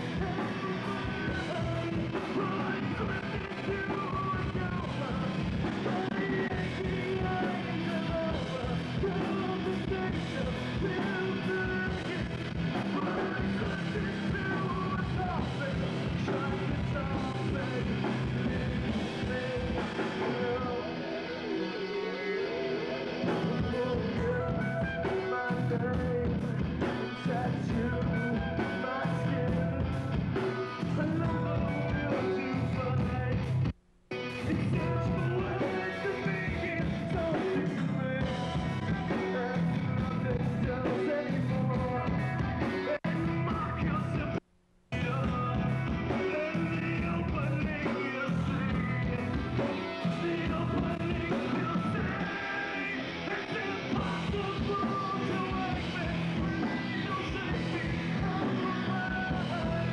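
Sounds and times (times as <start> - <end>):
live rock band playing: 0.0 - 44.4, 45.0 - 59.9.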